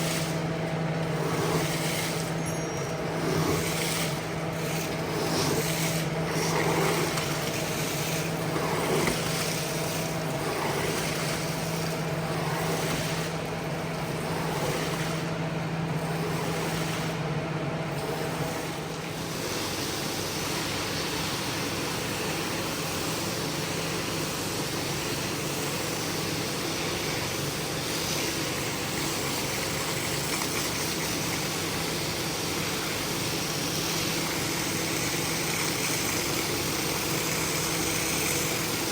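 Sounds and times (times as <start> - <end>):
cleaning machine motor running: 0.0 - 38.9.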